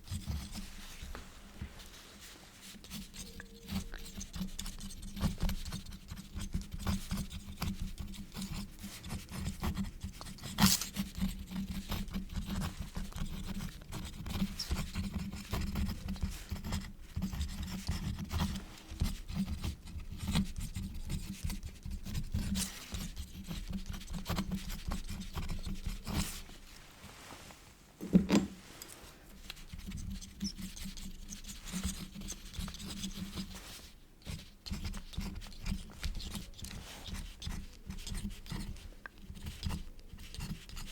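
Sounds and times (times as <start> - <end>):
quill scratching on paper: 0.0 - 1.1, 2.2 - 26.5, 29.4 - 40.9.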